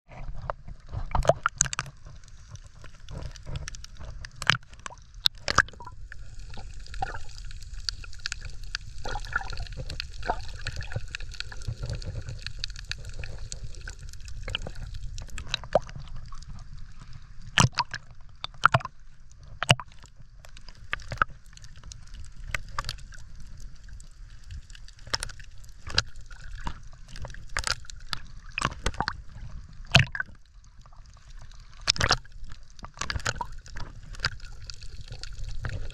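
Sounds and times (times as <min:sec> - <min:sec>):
underwater water sloshing: 0:00.1 - 0:35.9
sharp clicks and pops: 0:00.4 - 0:16.6, 0:17.5 - 0:23.2, 0:24.4 - 0:29.2, 0:29.8 - 0:30.4, 0:31.8 - 0:35.9.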